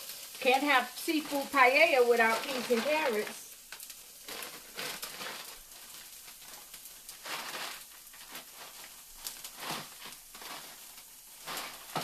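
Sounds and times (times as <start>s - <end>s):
rice sizzling in a pan: 0.0s - 12.0s.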